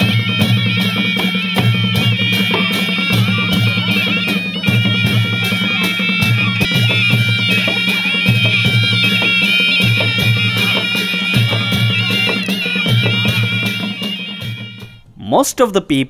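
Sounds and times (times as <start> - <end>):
shrill reedy wind instruments: 0.0 - 15.1
drums keeping steady beat: 0.0 - 15.4.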